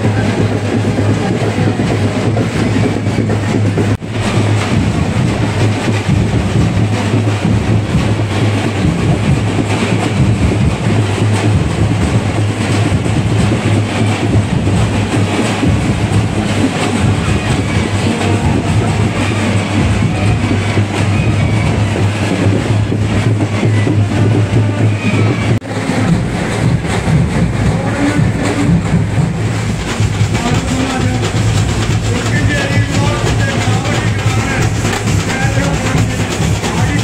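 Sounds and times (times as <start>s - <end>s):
crowd noise: 0.0s - 37.0s
festival drumming: 0.0s - 37.0s.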